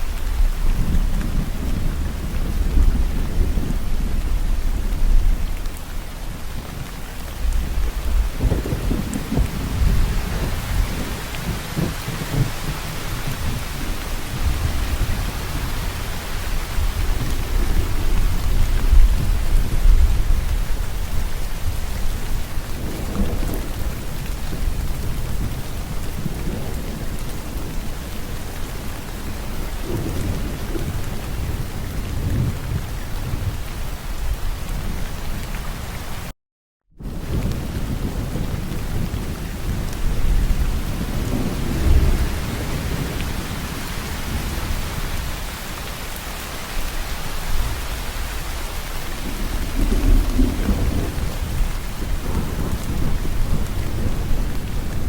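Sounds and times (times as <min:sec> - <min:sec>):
rolling thunder: 0:00.0 - 0:35.2, 0:37.0 - 0:45.9, 0:46.6 - 0:55.0
heavy rain: 0:00.0 - 0:36.3, 0:37.0 - 0:55.0.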